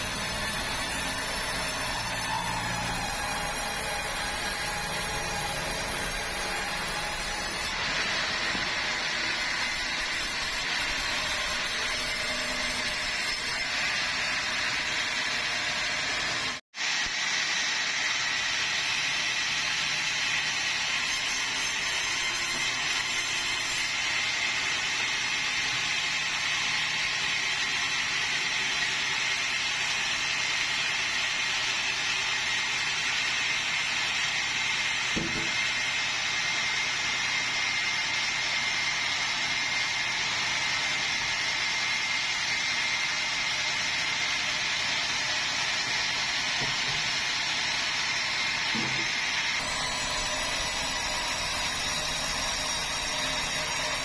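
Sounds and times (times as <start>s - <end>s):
sawmill saw running with high whine: 0.0s - 54.0s.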